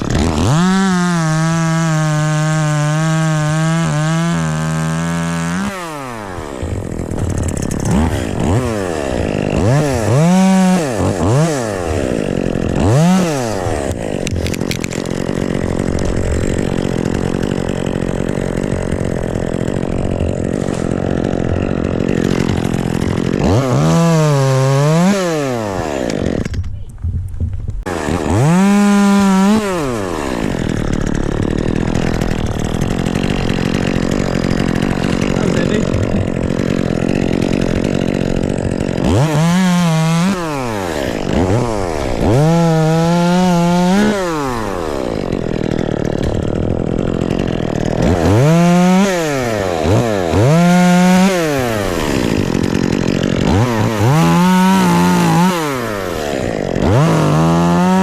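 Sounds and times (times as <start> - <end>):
chainsaw revving: 0.0 - 26.7, 27.8 - 58.0.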